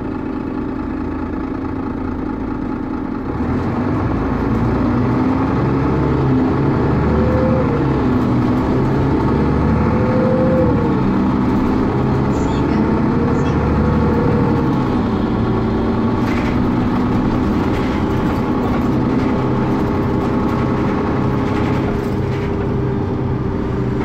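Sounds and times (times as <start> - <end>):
bus diesel engine: 0.0 - 24.0.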